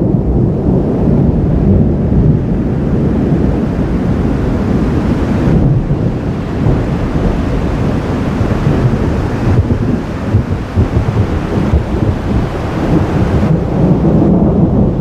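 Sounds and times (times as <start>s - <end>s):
thunder rumbling: 0.0s - 15.0s
wind buffeting microphone: 0.0s - 15.0s.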